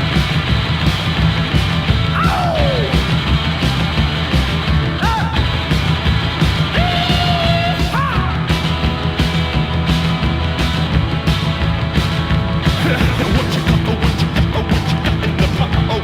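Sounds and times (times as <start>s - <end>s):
rock band music: 0.0s - 16.0s.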